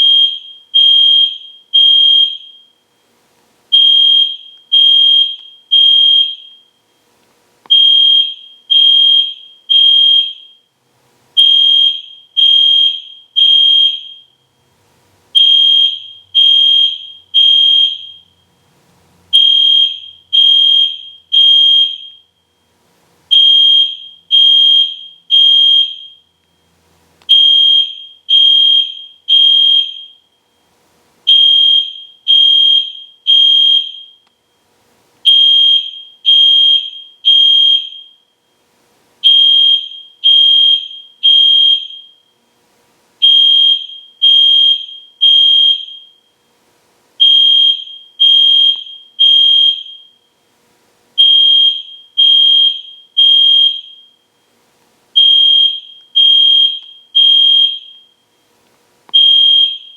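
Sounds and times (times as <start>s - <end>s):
fire alarm horn blasts: 0.0s - 2.9s, 3.7s - 6.8s, 7.7s - 10.7s, 11.4s - 14.4s, 15.4s - 18.6s, 19.3s - 22.6s, 23.3s - 26.6s, 27.3s - 30.5s, 31.3s - 34.6s, 35.2s - 38.6s, 39.2s - 42.4s, 43.2s - 46.4s, 47.2s - 50.4s, 51.2s - 54.3s, 55.2s - 58.4s, 59.1s - 59.9s.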